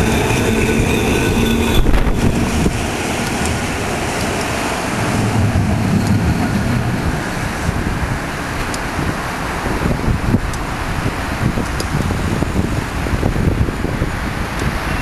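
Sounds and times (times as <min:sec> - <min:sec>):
tram clicks: 0:00.0 - 0:13.4, 0:14.3 - 0:15.0
electric tram whine: 0:00.0 - 0:15.0
tram rumble: 0:00.0 - 0:15.0
wind buffeting microphone: 0:00.0 - 0:15.0.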